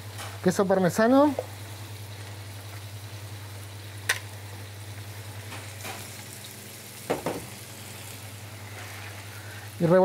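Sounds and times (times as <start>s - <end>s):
prawns sizzling in a frying pan: 0.0s - 10.0s.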